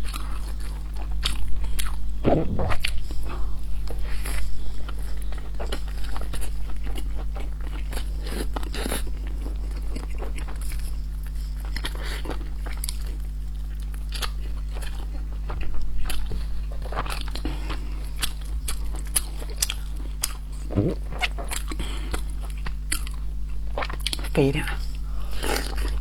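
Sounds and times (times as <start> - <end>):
biting and chewing soft food: 0.0 - 26.0
low electrical hum: 0.0 - 26.0.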